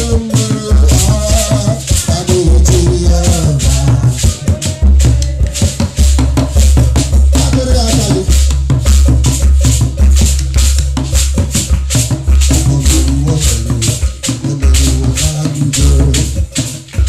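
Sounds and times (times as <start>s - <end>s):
deep steady drum beat: 0.0s - 17.0s
shaker rattling: 0.0s - 17.0s
upbeat praise music: 0.0s - 17.0s.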